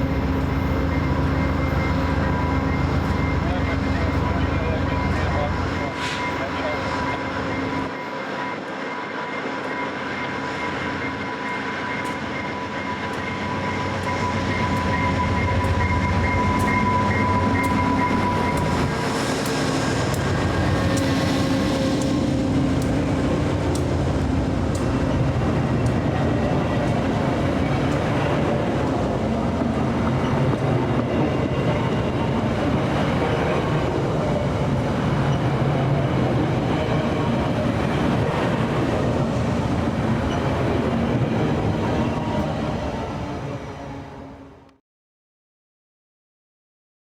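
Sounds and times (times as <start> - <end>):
train rumbling past: 0.0 - 44.7.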